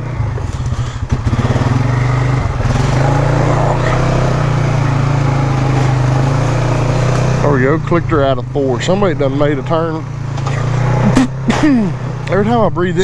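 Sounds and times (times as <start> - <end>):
atv engine running at low speed: 0.0 - 13.0.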